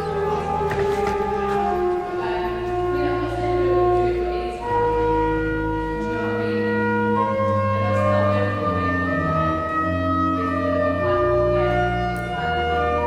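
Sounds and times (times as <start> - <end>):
pipe organ playing chords: 0.0 - 13.0.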